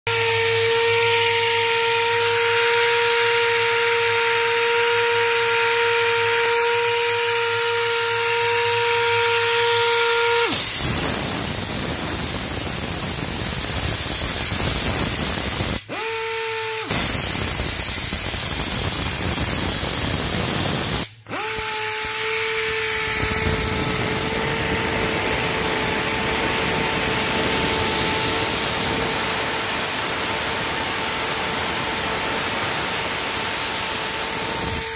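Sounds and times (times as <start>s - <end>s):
grinder motor whine: 0.1s - 34.9s.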